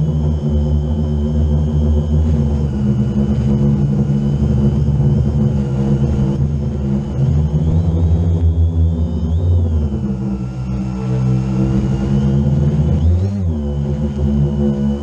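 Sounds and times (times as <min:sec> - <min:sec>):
drone motors and propellers: 0:00.0 - 0:15.0
thin high whine: 0:00.0 - 0:15.0.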